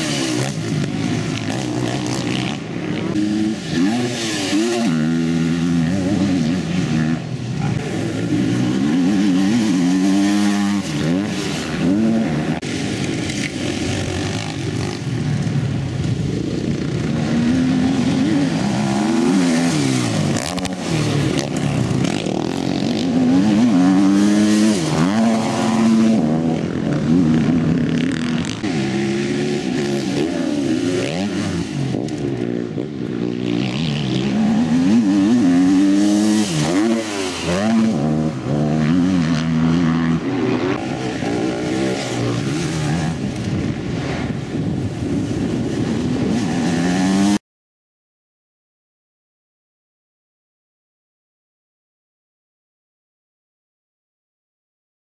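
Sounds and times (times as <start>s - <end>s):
motocross bike engines revving: 0.0s - 47.4s.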